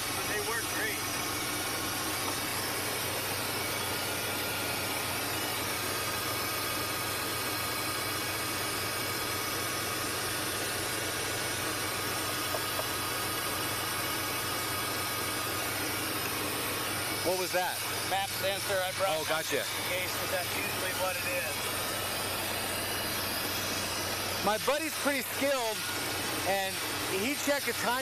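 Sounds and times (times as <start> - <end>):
pickup engine idling: 0.0 - 27.3.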